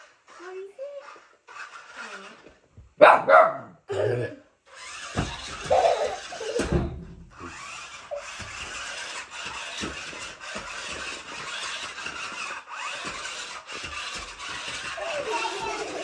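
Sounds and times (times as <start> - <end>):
toy car electric motors whirring: 0.0 - 3.0, 4.6 - 16.0.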